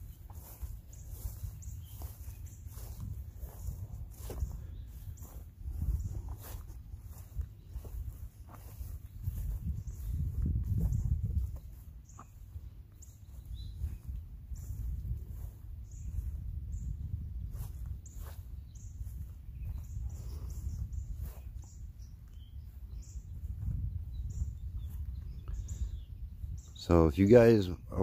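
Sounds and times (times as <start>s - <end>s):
small birds chirping: 0.0s - 28.0s
wind rumble on microphone: 0.0s - 28.0s.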